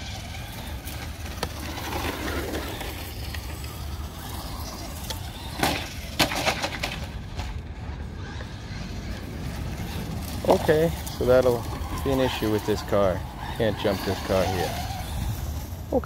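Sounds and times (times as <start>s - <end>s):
rc truck low rumble: 0.0s - 16.0s.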